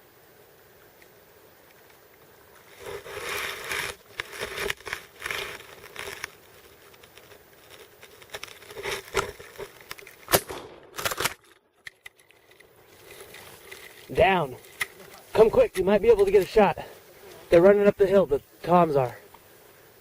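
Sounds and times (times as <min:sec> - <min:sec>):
rustling through grass and clothing: 0:01.7 - 0:10.4, 0:12.1 - 0:20.0.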